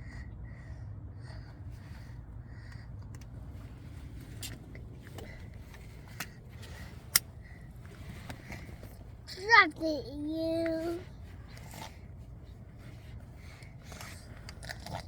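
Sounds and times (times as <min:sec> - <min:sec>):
low rumble inside car: 0:00.0 - 0:15.0.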